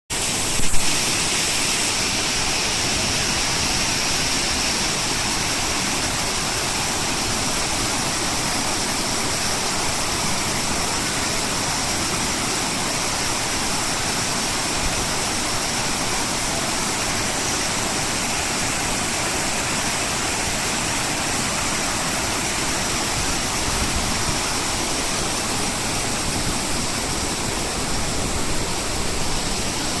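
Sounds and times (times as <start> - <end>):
waterfall roaring: 0.1 - 30.0.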